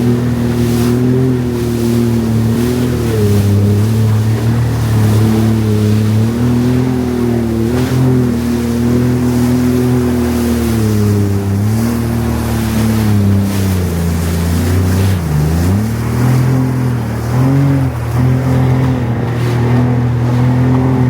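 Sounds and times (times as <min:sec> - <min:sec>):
jet ski engine running: 0:00.0 - 0:21.0
water rushing: 0:00.0 - 0:21.0.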